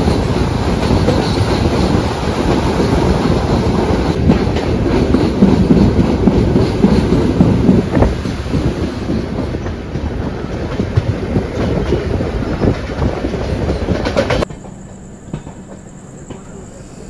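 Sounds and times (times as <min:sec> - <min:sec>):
train rumbling on track: 0:00.0 - 0:17.0
wheels clattering over rail joints: 0:00.0 - 0:17.0.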